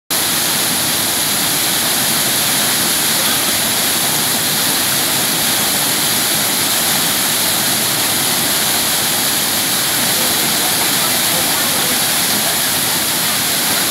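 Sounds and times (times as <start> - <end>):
waterfall rushing: 0.1 - 13.9.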